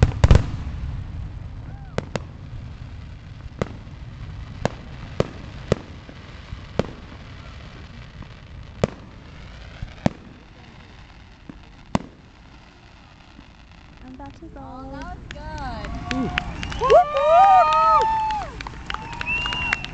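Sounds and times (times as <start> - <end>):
firework shells bursting: 0.0 - 19.9.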